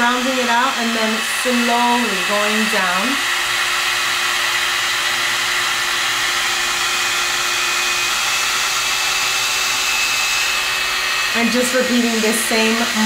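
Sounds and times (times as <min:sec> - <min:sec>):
hot-air brush whining air rush: 0:00.0 - 0:13.0.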